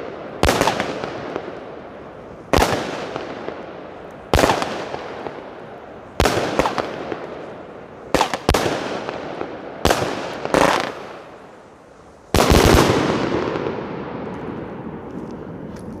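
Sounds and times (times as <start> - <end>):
firework reports: 0.0 - 15.7.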